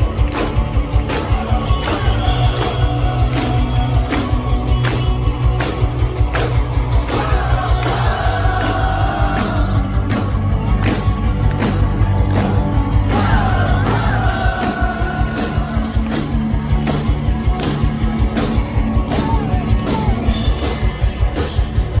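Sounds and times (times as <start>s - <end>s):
bass guitar: 0.0s - 22.0s
distorted guitars: 0.0s - 22.0s
steady drum beat: 0.0s - 22.0s.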